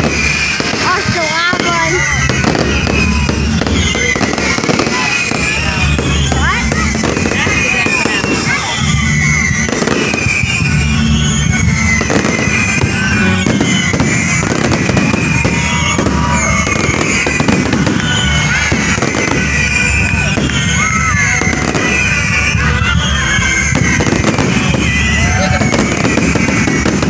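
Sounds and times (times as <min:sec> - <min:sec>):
fireworks bursting and crackling: 0:00.0 - 0:27.0
music playing: 0:00.0 - 0:27.0.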